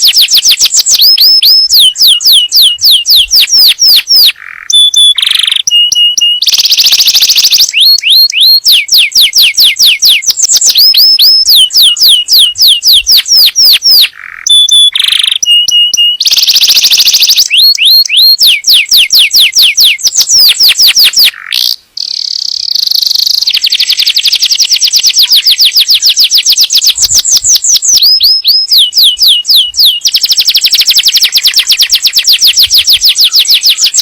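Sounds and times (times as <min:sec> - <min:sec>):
canary singing rapid trills: 0:00.0 - 0:34.0.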